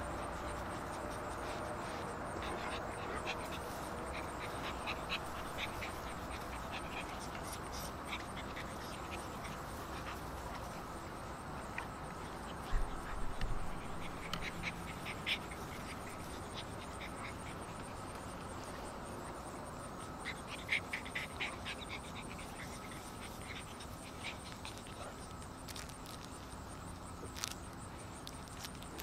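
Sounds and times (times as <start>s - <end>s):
insect hum: 0.0s - 29.0s
puppies scuffling on grass: 0.0s - 29.0s.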